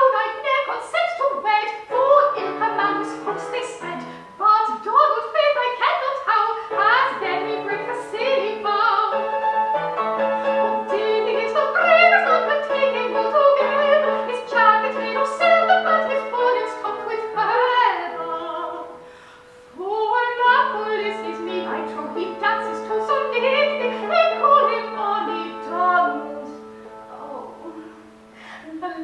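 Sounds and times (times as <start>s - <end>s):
woman singing operatically: 0.0s - 9.4s, 10.6s - 19.0s, 19.7s - 29.0s
fortepiano accompaniment: 0.0s - 28.4s.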